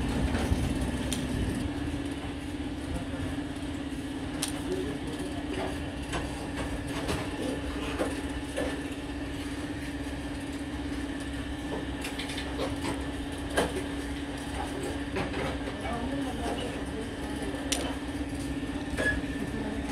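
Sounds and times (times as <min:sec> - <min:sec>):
steady machine hum: 0:00.0 - 0:19.9.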